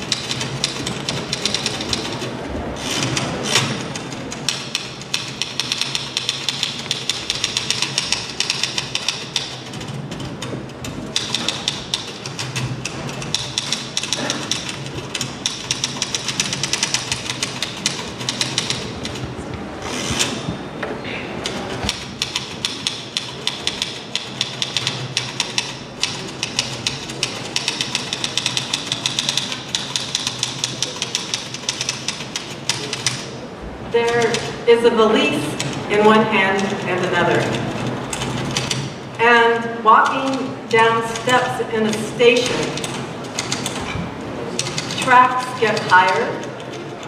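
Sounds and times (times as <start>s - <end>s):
typewriter keystrokes clattering: 0.0s - 19.4s, 21.4s - 33.4s, 34.1s - 34.6s, 35.5s - 39.0s, 40.0s - 47.0s
loud typewriter clack: 0.0s - 20.6s, 21.4s - 33.5s, 34.1s - 34.6s, 35.5s - 47.0s.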